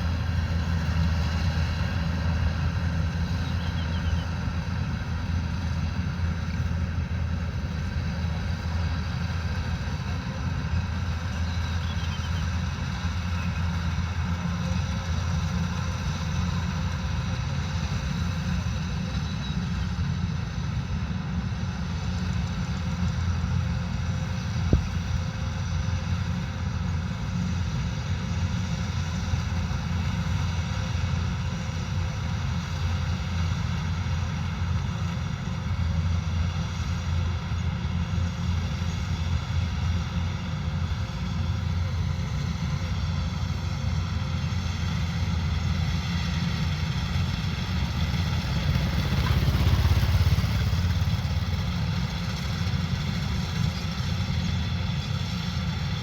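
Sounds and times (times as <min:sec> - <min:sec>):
combine harvester engine drone: 0:00.0 - 0:56.0
faint machinery whines: 0:00.0 - 0:56.0.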